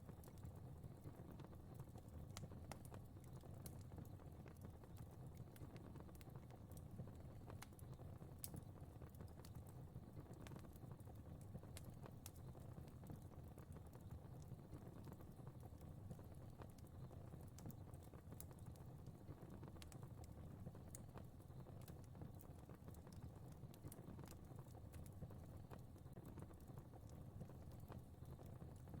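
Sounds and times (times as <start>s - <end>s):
fire crackling and popping: 0.0s - 29.0s
low rumble of burning: 0.0s - 29.0s.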